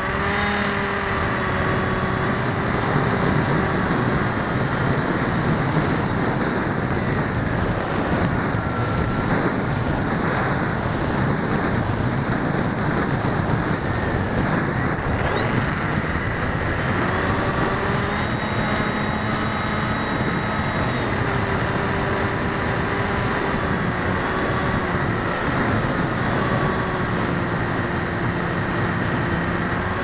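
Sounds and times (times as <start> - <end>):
electric motor and propellers: 0.0 - 30.0
faint motor whine: 0.0 - 30.0
wind buffeting microphone: 0.0 - 30.0.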